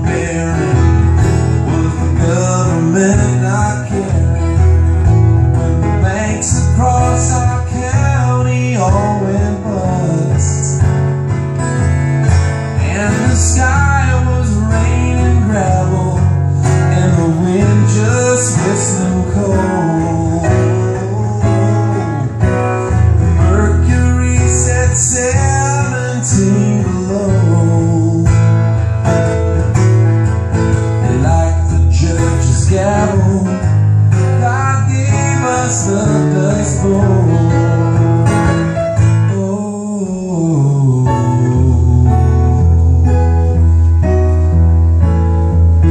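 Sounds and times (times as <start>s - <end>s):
person singing: 0.0s - 4.8s, 5.9s - 11.0s, 12.8s - 22.6s, 23.3s - 28.6s, 31.0s - 44.0s
acoustic guitar: 0.0s - 45.9s
piano: 0.0s - 45.9s.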